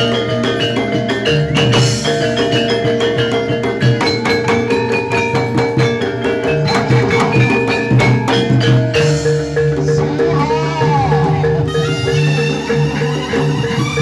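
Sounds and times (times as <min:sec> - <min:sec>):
drum strokes: 0:00.0 - 0:14.0
metallophone notes: 0:00.0 - 0:14.0.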